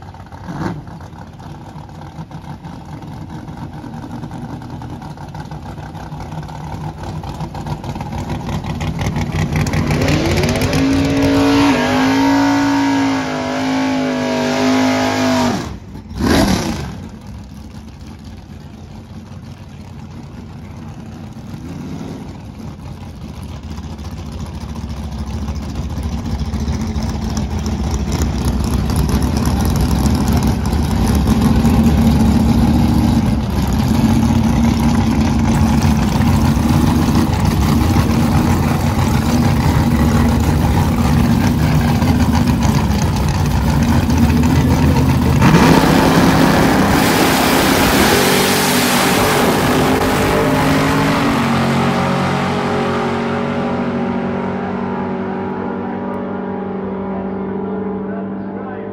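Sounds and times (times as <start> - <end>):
racing car engines idling: 0.0 - 12.0, 17.0 - 58.9
full-throttle engine roar: 0.0 - 58.9.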